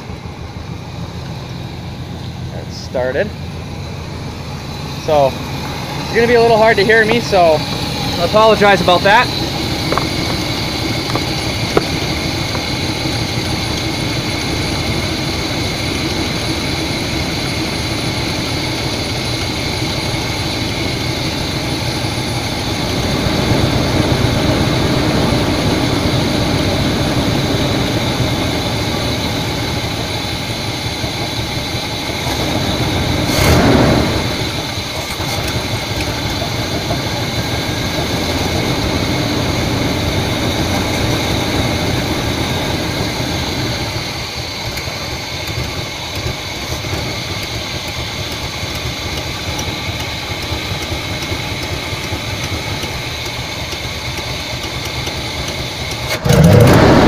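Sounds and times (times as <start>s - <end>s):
engine fan: 0.0s - 57.0s
engine running: 0.0s - 57.0s.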